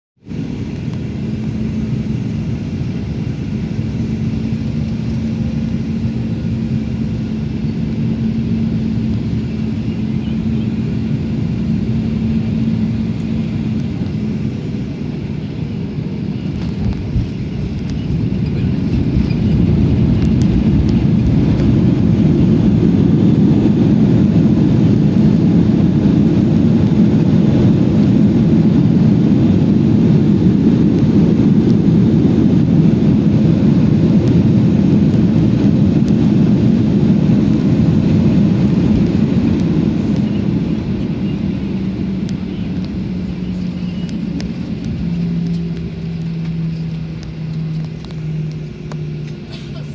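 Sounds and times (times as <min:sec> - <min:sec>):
airplane cabin engine rush: 0:00.1 - 0:49.9
low hum: 0:00.2 - 0:49.9.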